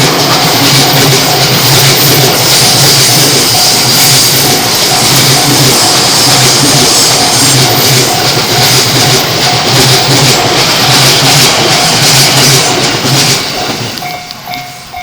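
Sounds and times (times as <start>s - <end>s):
level crossing alarm ringing: 0.0s - 15.0s
train rushing: 0.0s - 15.0s.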